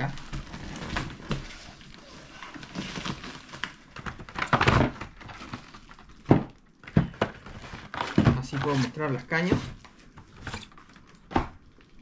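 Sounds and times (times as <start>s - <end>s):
cardboard rustling and scraping: 0.0s - 10.9s.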